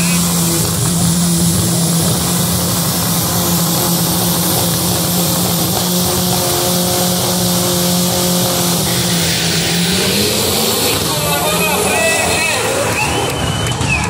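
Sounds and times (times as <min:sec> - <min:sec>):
racing car engines revving high: 0:00.0 - 0:14.0.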